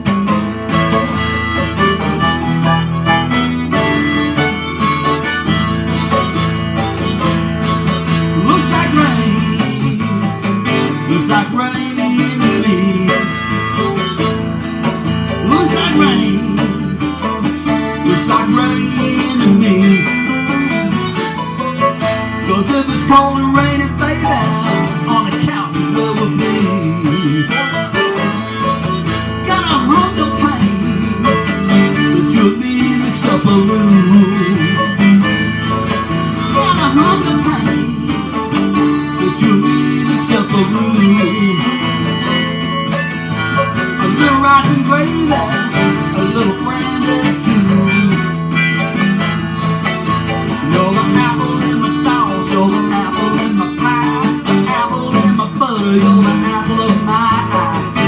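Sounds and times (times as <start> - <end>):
acoustic guitar: 0.0 - 58.0
mandolin: 0.0 - 58.0.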